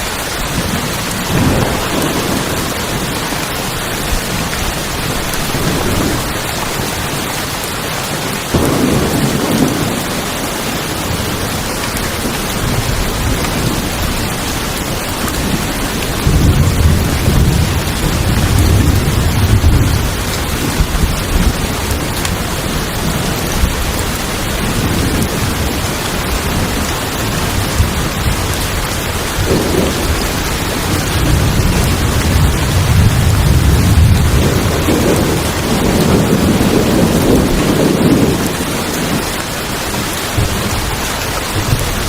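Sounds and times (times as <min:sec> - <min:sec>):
rain on a tin roof: 0:00.0 - 0:42.0
thunder rumbling: 0:00.3 - 0:42.0.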